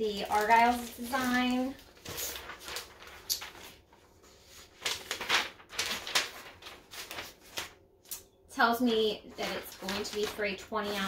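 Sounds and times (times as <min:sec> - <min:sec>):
paper and plastic rustling: 0:00.0 - 0:07.8, 0:09.3 - 0:11.0.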